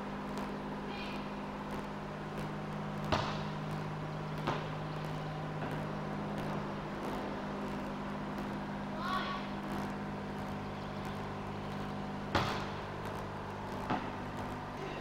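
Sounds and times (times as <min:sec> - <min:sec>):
steady low hum: 0:00.0 - 0:15.0
volleyball thudding on concrete: 0:00.0 - 0:15.0.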